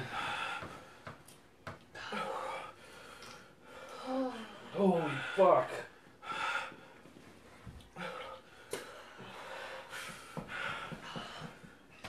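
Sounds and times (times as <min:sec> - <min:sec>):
people breathing hard and gasping: 0:00.0 - 0:12.0.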